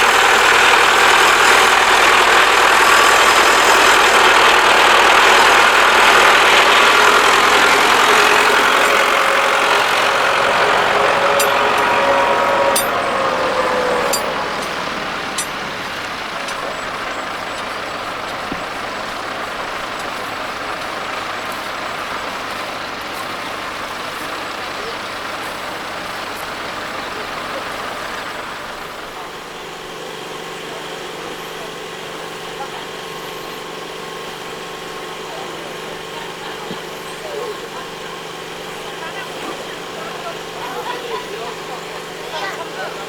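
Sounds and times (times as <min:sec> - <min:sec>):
steady quieter engine noise: 0:00.0 - 0:43.0
tractor engine running: 0:00.0 - 0:43.0.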